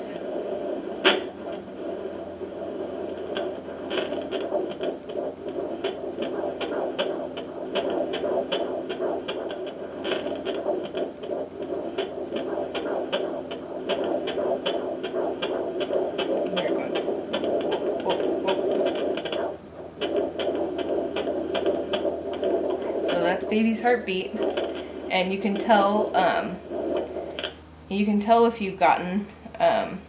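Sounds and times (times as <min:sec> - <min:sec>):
fetal heartbeat whooshing pulse: 0:00.0 - 0:30.0
steady hiss: 0:00.0 - 0:30.0.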